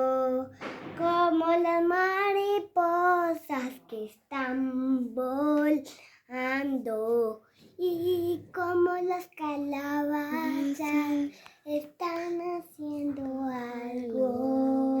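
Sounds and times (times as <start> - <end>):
girl singing: 0.0 - 15.0.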